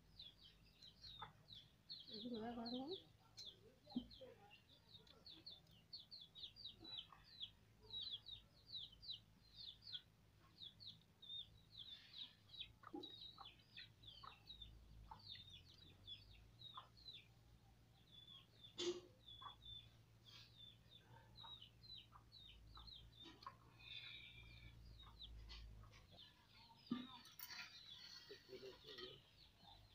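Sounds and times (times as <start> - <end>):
faint bird chirping: 0.0 - 29.9.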